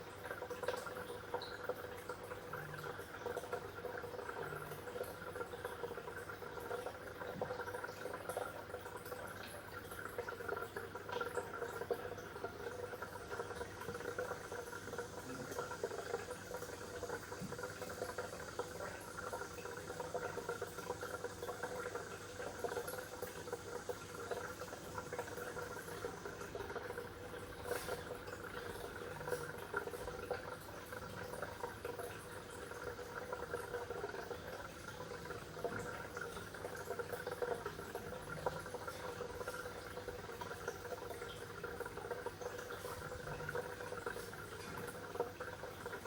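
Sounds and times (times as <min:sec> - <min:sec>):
water bubbling: 0:00.3 - 0:46.0.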